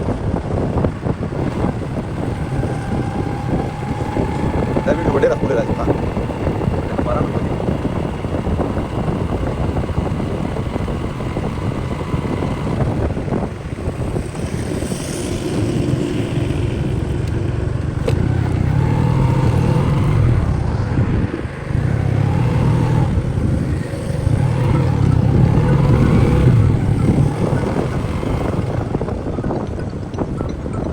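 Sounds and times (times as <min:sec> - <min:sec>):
motorcycle engine revving: 0:00.0 - 0:30.7
wind and road noise: 0:00.0 - 0:30.9.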